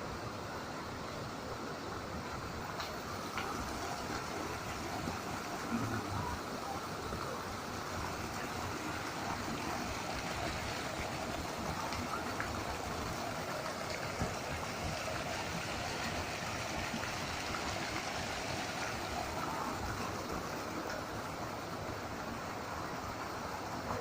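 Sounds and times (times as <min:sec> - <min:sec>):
waterfall pouring: 0:02.1 - 0:24.0.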